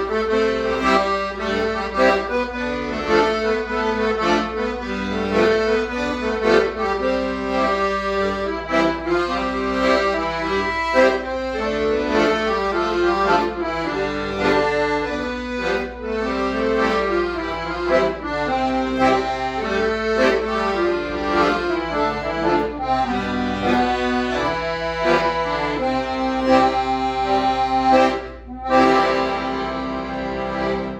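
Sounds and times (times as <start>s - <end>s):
accordion melody: 0.0s - 30.9s.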